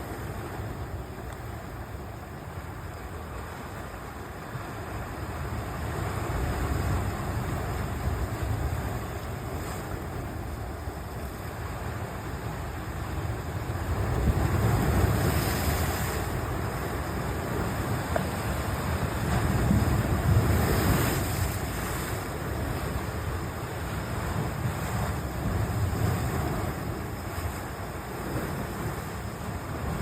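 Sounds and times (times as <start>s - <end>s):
sea surf washing on shore: 0.0s - 30.0s
wind rumbling on microphone: 0.0s - 30.0s.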